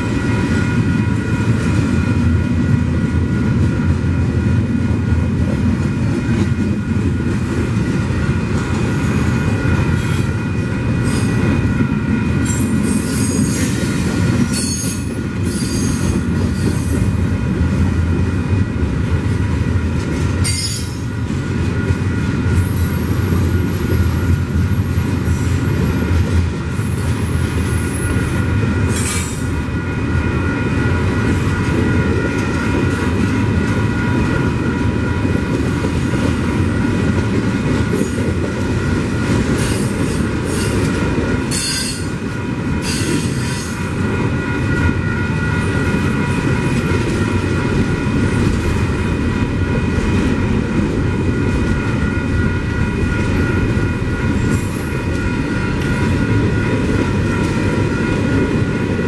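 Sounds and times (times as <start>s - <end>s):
train clanks: 0.0s - 59.0s
train rolling past: 0.0s - 59.0s.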